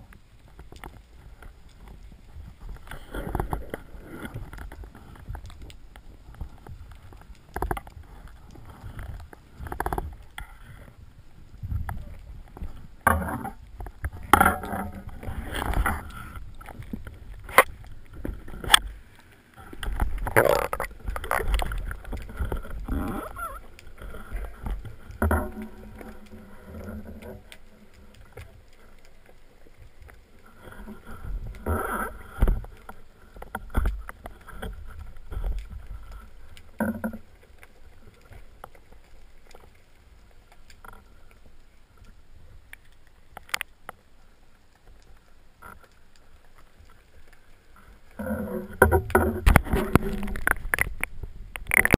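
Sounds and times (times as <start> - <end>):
water sloshing: 0.9 - 42.2, 45.6 - 51.9.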